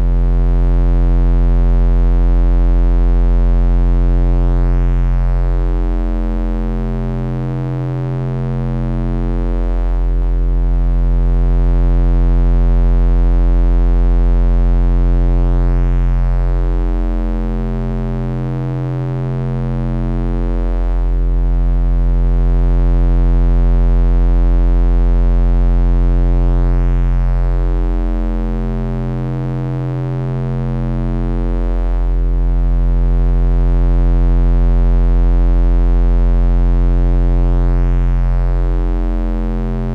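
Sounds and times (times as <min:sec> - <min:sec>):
synthesized bass drone: 0:00.0 - 0:39.9.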